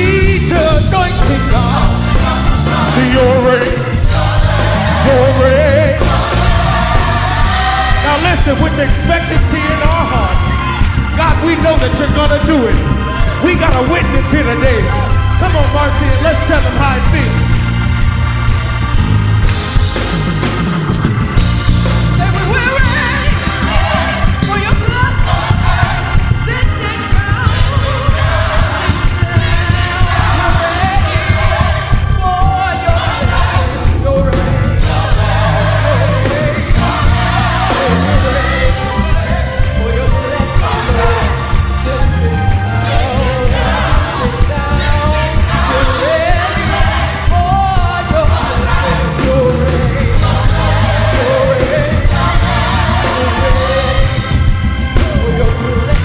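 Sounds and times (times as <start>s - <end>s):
gospel band playing: 0.0s - 56.0s.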